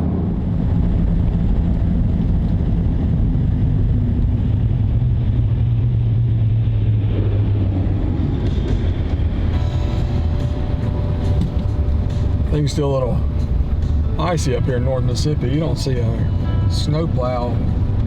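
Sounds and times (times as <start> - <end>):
truck engine and road drone: 0.0 - 18.0.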